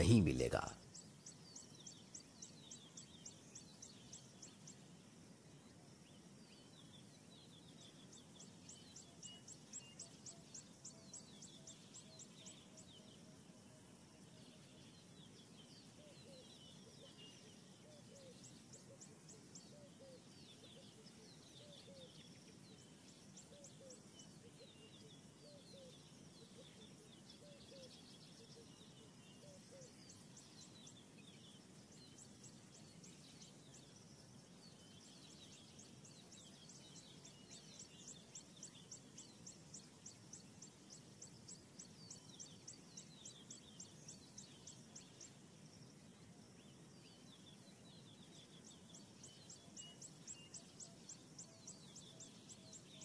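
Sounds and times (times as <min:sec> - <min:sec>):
soft background hiss: 0:00.0 - 0:53.0.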